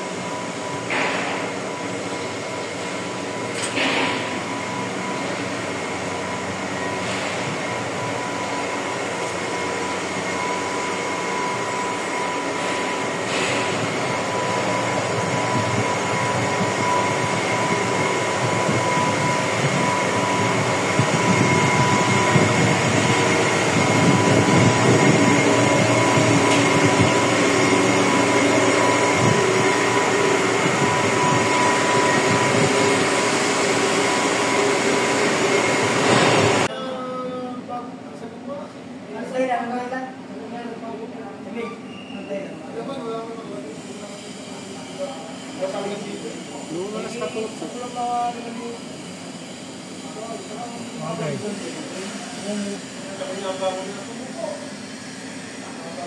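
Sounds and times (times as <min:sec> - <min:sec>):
steady whine: 0:00.0 - 0:41.2, 0:42.4 - 0:56.0
dust collector machinery drone: 0:00.0 - 0:56.0.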